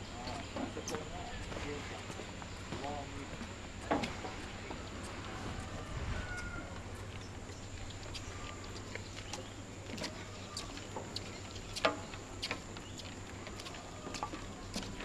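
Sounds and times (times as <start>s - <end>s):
footsteps on steel walkway: 0.0s - 15.0s.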